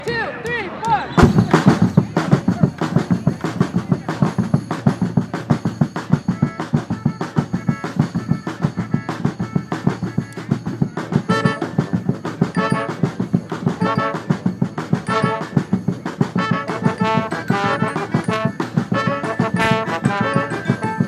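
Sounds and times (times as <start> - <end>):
snare and bass drums beat: 1.2 - 21.0.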